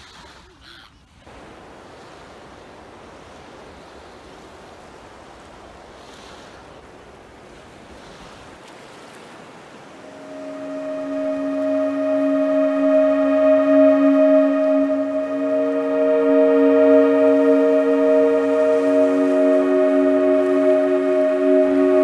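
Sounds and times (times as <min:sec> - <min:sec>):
ocean waves washing: 0:01.3 - 0:22.0.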